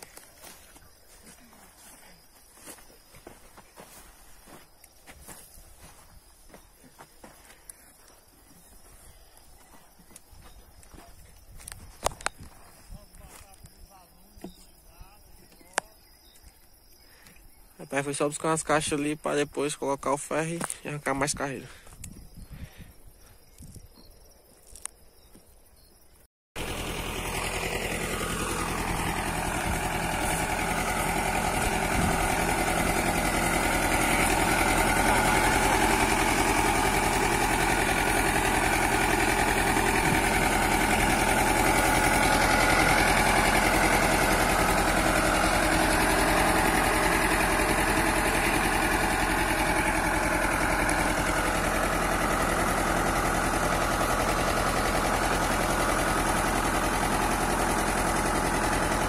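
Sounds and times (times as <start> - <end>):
tractor engine under load: 0.0 - 14.8, 26.6 - 59.0.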